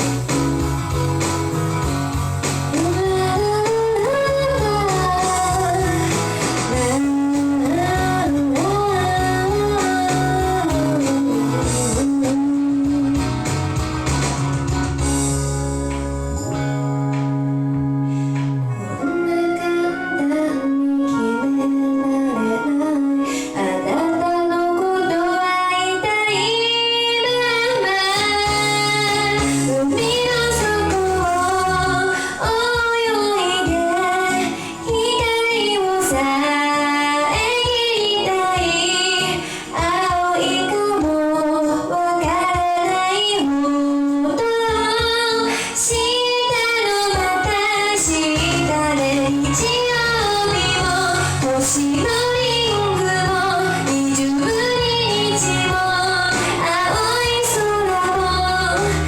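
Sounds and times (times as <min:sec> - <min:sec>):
instrumental backing track: 0:00.0 - 0:59.0
woman singing: 0:02.7 - 0:13.8, 0:18.8 - 0:59.0.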